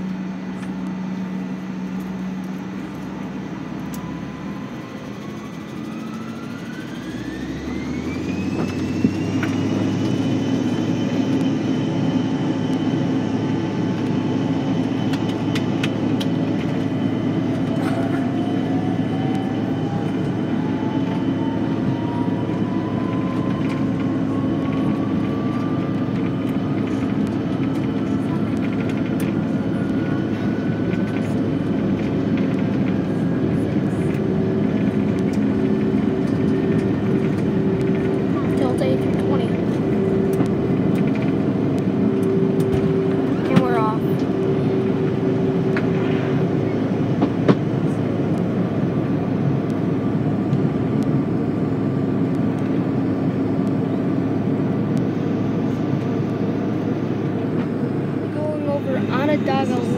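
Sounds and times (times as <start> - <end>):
jet engines spooling up: 0.0 - 59.9
rising whine: 0.0 - 59.9.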